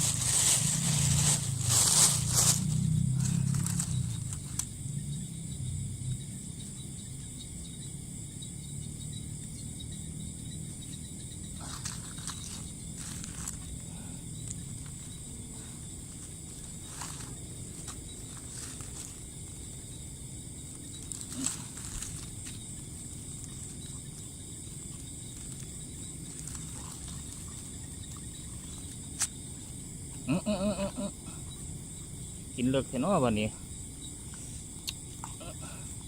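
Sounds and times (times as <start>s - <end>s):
insects chorus: 0.0s - 36.0s.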